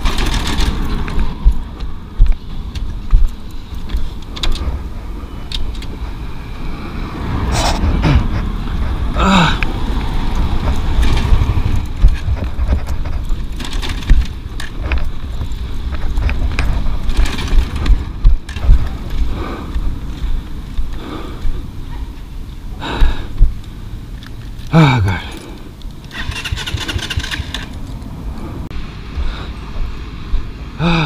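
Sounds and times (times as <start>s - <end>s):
road noise: 0.0s - 31.0s
wind rumbling on microphone: 0.0s - 31.0s.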